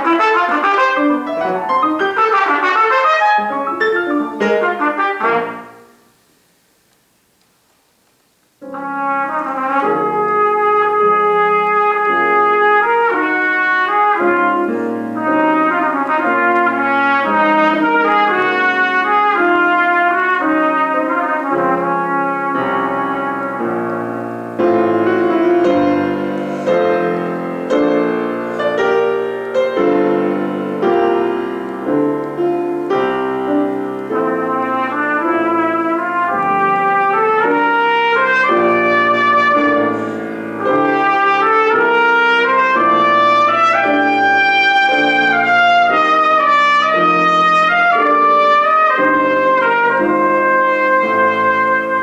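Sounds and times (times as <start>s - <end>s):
trumpet playing a melody: 0.0s - 6.1s, 8.6s - 52.0s
piano accompaniment: 0.0s - 6.2s, 8.6s - 52.0s.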